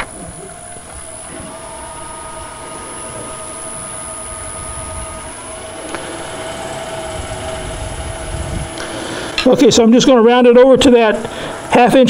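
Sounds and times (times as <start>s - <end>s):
wood lathe motor whine: 0.0s - 12.0s.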